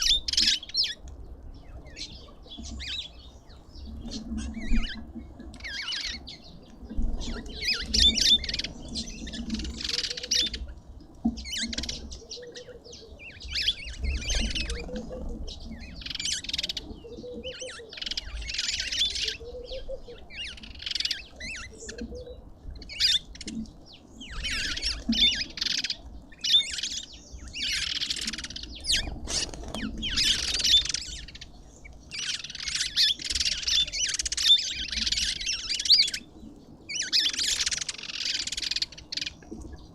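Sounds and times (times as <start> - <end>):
birds squawking chatter: 0.0 - 39.9.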